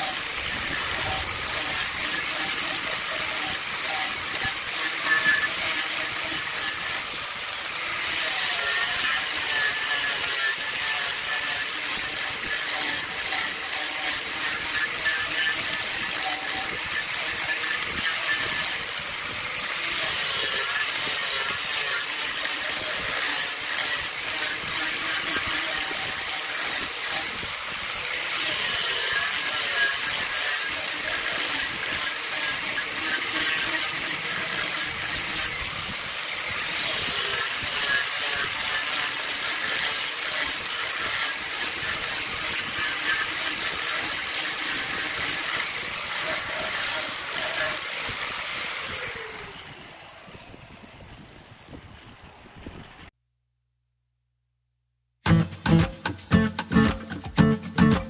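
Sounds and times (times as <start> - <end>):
power grinder sanding wood: 0.0 - 53.1.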